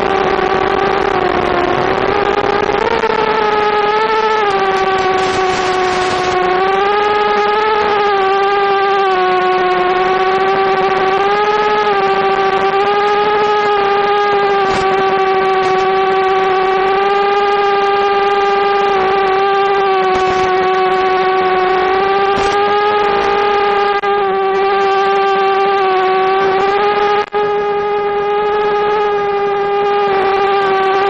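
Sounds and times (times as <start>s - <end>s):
drone propellers whining: 0.0s - 31.0s.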